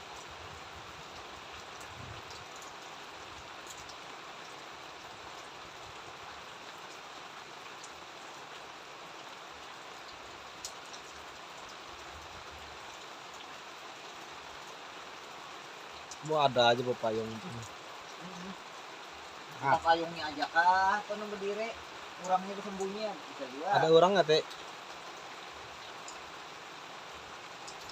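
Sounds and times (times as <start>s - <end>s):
steady rain hiss: 0.0s - 27.9s
rain drop ticks: 1.0s - 26.6s, 27.3s - 27.9s.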